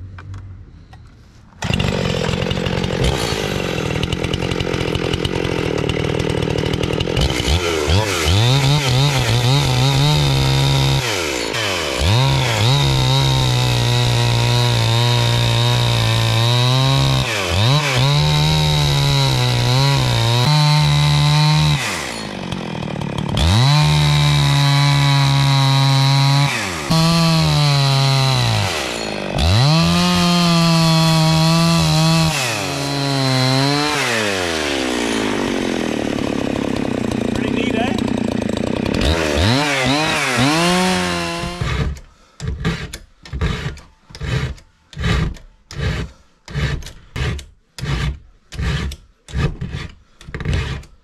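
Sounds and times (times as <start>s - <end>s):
chainsaw cutting log: 1.6s - 51.0s.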